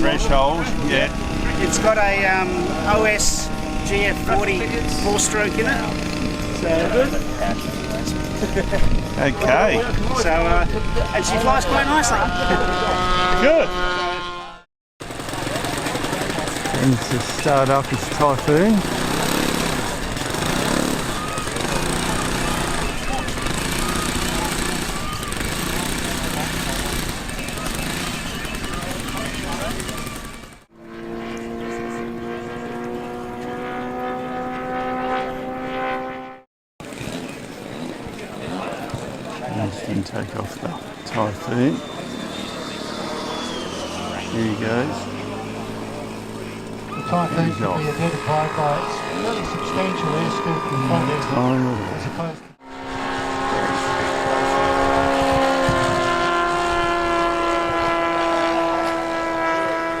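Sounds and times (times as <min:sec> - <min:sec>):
model plane engine running: 0:00.0 - 0:14.4, 0:15.0 - 0:35.4, 0:36.8 - 1:00.0.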